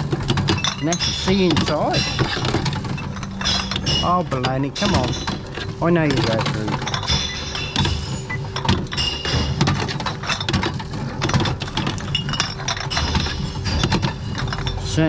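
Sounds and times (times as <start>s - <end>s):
glass bottles clinking: 0.0s - 15.0s
machine motor hum: 0.0s - 15.0s.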